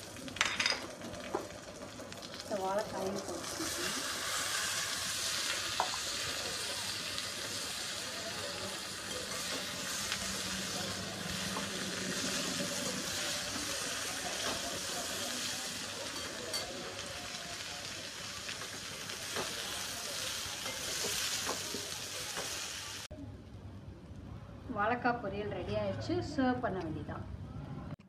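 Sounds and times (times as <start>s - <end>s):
food sizzling in hot oil: 0.0s - 23.1s.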